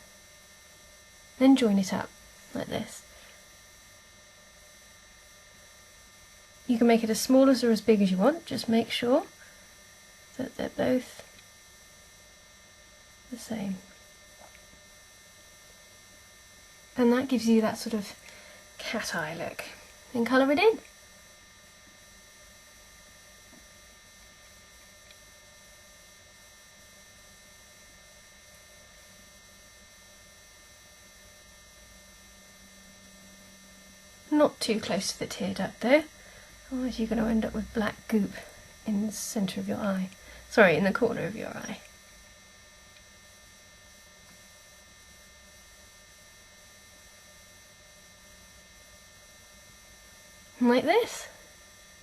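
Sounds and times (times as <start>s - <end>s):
faint electrical hum with hiss: 0.0s - 52.0s.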